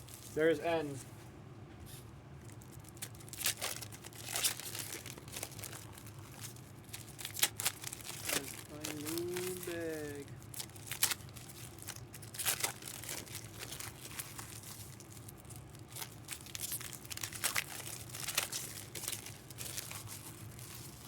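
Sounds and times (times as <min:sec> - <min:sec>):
packaging crinkling and tearing: 0:02.4 - 0:21.0.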